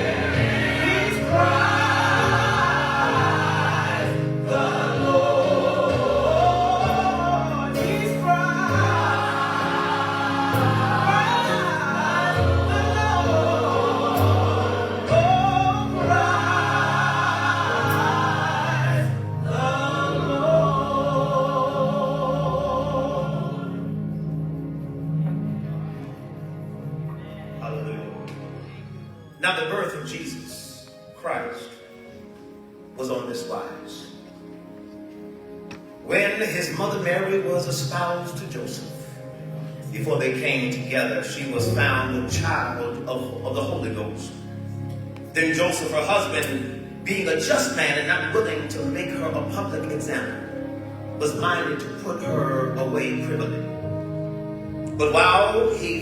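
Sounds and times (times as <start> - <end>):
choir singing: 0.0 - 29.3, 36.6 - 56.0.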